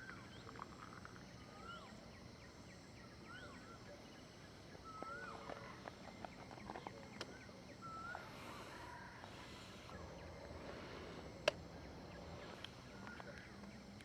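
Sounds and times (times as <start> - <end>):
bird chirp: 0.0 - 14.0
faint outdoor ambience: 0.0 - 14.0.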